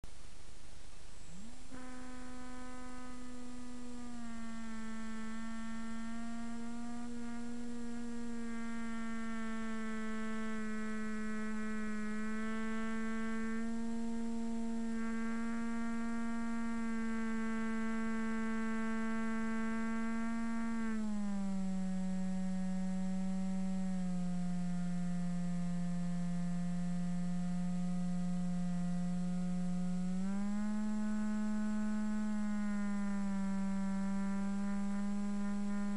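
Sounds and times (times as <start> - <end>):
electric motor propeller whine: 1.3 - 35.9.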